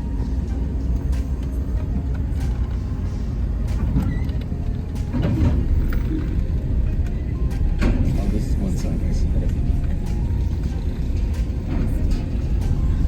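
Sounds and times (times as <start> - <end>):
vehicle road noise rumble: 0.0 - 13.0.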